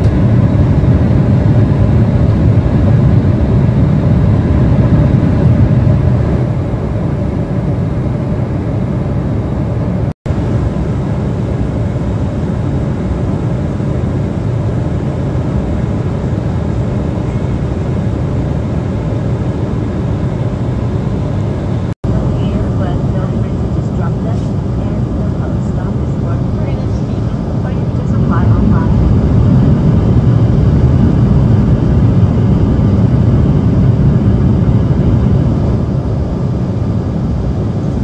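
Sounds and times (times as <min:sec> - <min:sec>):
airflow rush in cabin: 0:00.0 - 0:38.0
jet engines droning: 0:00.0 - 0:38.0.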